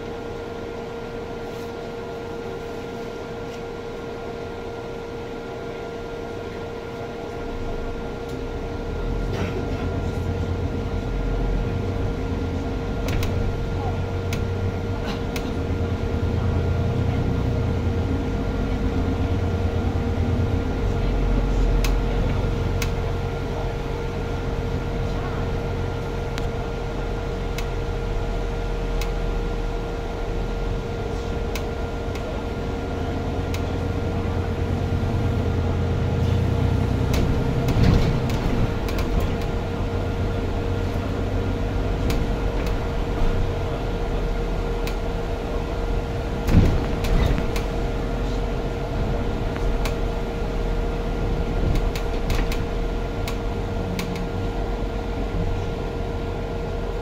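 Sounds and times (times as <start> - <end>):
bus engine rumble: 0.0 - 57.0
steady hum: 0.0 - 57.0.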